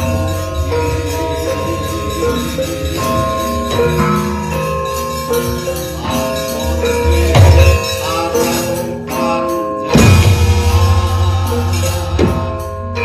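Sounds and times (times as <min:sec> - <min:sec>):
gamelan music: 0:00.0 - 0:13.0
metallic jingling: 0:00.0 - 0:13.0.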